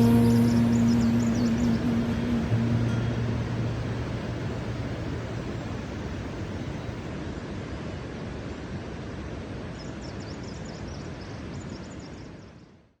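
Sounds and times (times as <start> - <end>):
rushing outdoor noise: 0.0 - 12.6.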